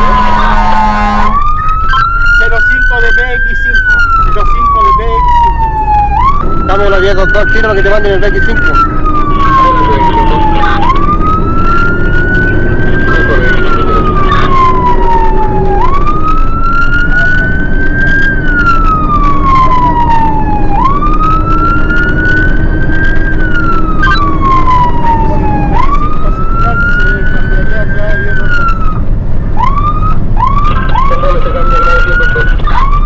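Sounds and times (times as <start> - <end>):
fire siren wailing: 0.0 - 33.0.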